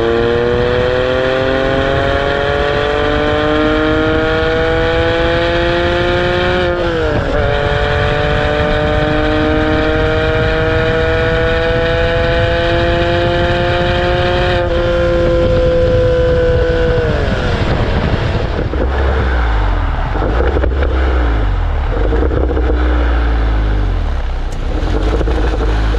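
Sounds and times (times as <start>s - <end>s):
car engine accelerating: 0.0s - 25.9s
road and wind noise: 0.0s - 25.9s.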